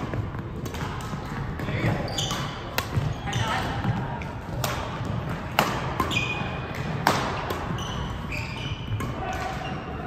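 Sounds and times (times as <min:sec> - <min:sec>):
rackets striking shuttlecock: 0:00.0 - 0:09.9
court shoes squeaking: 0:00.0 - 0:10.0.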